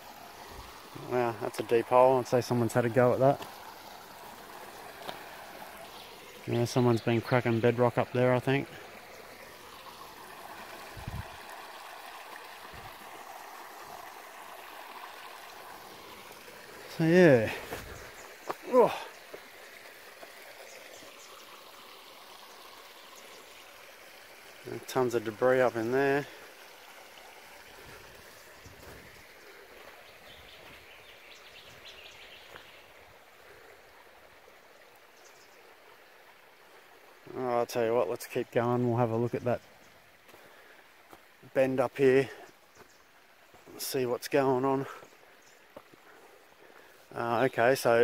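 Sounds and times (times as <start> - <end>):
creek water babbling over rocks: 0.0 - 48.0.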